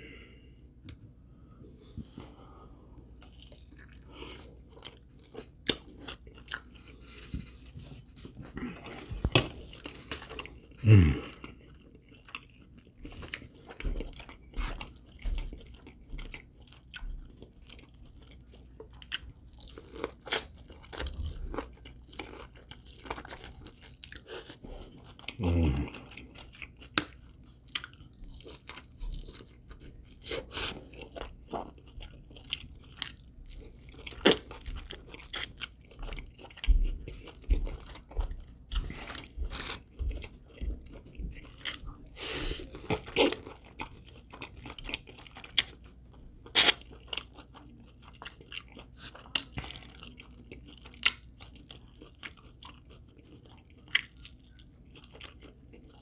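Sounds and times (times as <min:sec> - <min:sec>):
chewing: 0:03.0 - 0:56.0
crunching fried chicken: 0:08.6 - 0:56.0.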